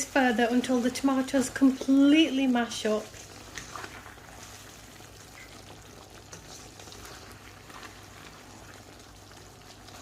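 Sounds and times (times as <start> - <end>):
sauce bubbling and sizzling: 0.0 - 10.0.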